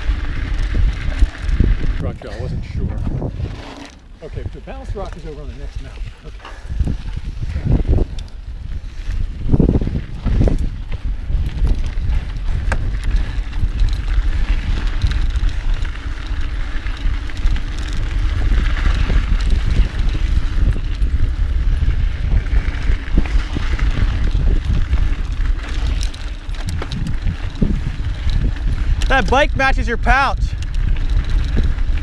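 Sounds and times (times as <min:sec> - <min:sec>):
bike tyre noise on dirt: 0:00.0 - 0:32.0
wind rumble on microphone: 0:00.0 - 0:32.0.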